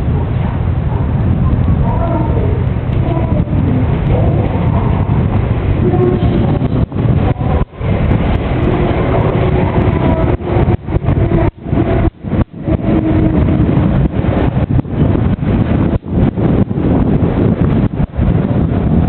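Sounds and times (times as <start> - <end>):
vehicles rumbling over level crossing: 0.0 - 19.0
wind buffeting microphone: 0.0 - 19.0.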